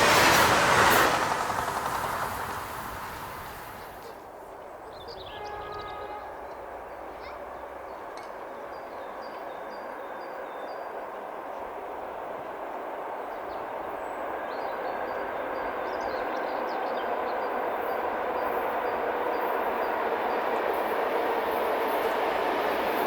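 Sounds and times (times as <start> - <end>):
train running on rails: 0.0 - 23.0.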